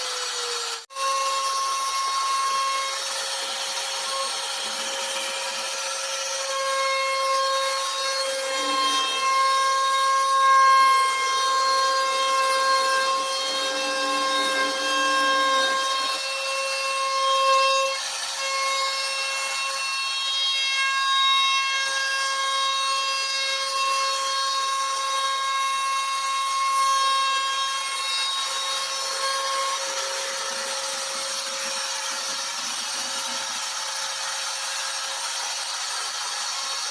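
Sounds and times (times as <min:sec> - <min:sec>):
router spindle whining cutting wood: 0:00.0 - 0:36.9.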